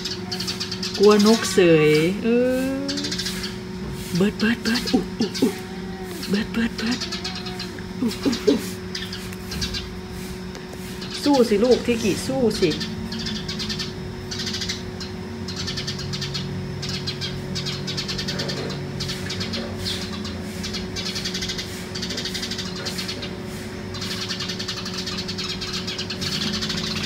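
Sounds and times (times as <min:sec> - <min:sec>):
birds harsh alarm calls: 0:00.0 - 0:27.0
steady low hum: 0:00.0 - 0:27.0.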